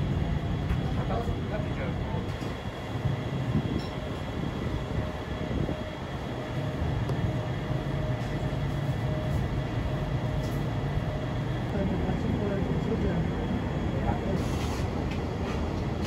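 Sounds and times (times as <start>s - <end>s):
low rumble of alley ambience: 0.0s - 16.0s.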